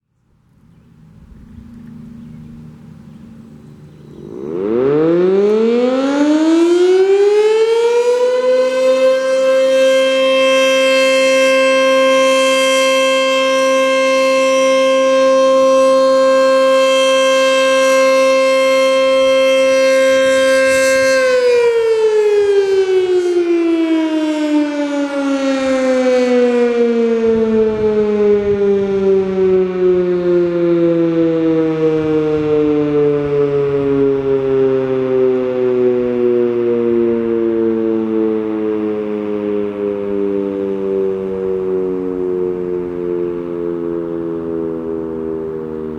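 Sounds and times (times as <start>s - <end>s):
outdoor warning siren winding: 1.6s - 45.9s.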